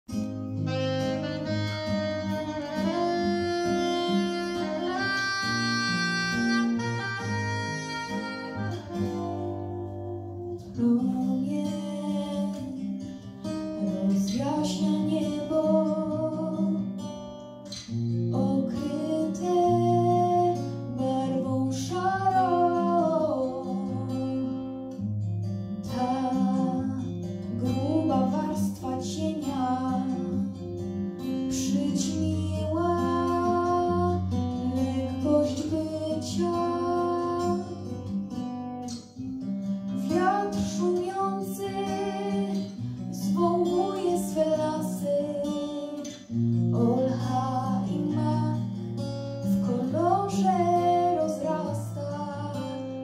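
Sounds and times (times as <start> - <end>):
backing track with guitar: 0.1 - 53.0
woman singing into microphone: 2.2 - 13.0, 13.8 - 16.9, 18.3 - 24.6, 25.8 - 30.6, 31.4 - 38.1, 40.0 - 48.8, 49.4 - 53.0.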